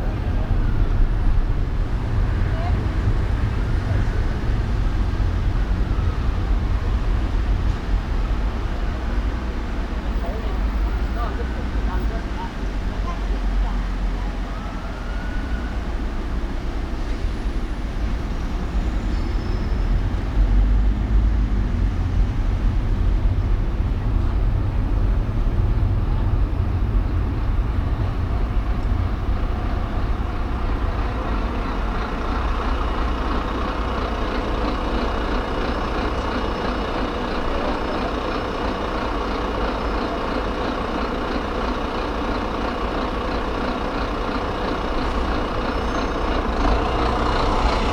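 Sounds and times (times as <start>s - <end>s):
traffic rumble of engines and tyres: 0.0s - 47.9s.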